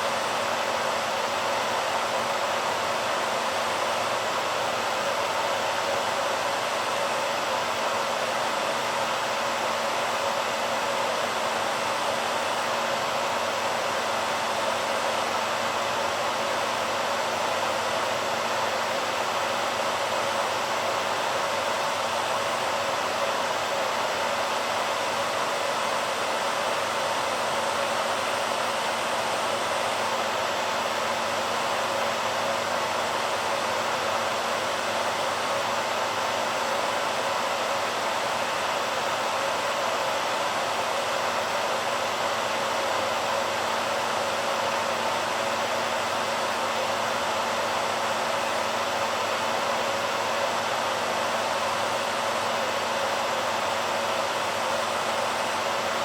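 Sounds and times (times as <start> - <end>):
hairdryer blowing air: 0.0 - 56.0.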